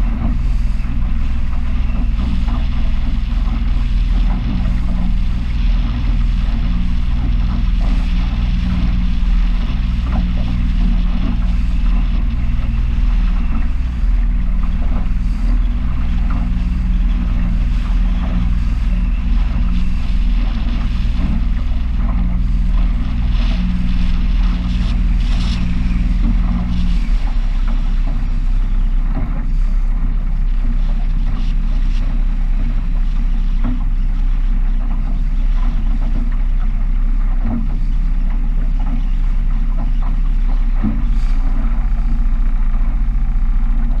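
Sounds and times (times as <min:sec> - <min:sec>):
boat engine running: 0:00.0 - 0:44.0
water rushing past hull: 0:00.0 - 0:44.0
wind on microphone: 0:00.0 - 0:44.0.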